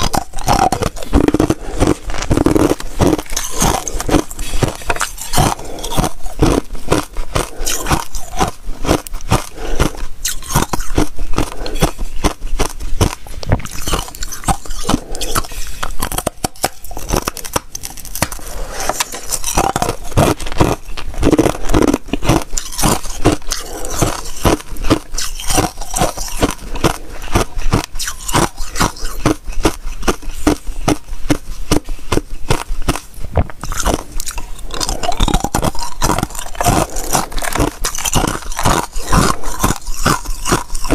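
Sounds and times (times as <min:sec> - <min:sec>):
ice crunching while chewed: 0:00.0 - 0:40.9.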